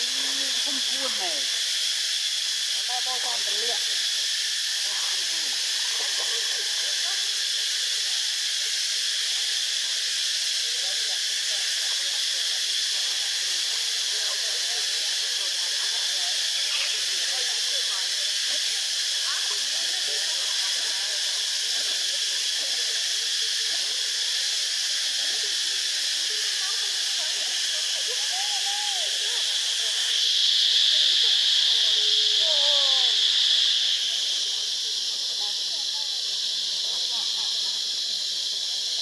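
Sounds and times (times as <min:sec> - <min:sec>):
faint voices: 0:00.0 - 0:09.3, 0:11.1 - 0:39.0
steady high hiss: 0:00.0 - 0:39.0.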